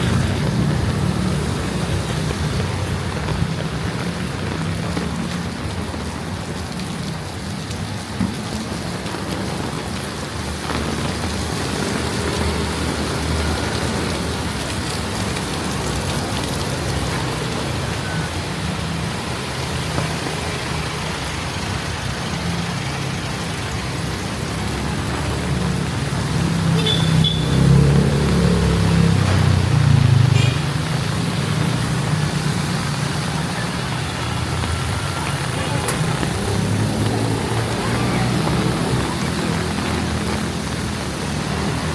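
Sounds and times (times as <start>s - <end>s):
heavy rain hiss: 0.0s - 41.9s
vehicle engines humming: 0.0s - 41.9s.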